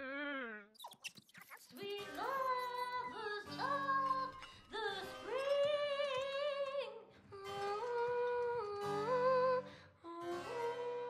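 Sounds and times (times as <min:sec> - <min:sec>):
woman singing: 0:01.7 - 0:11.0.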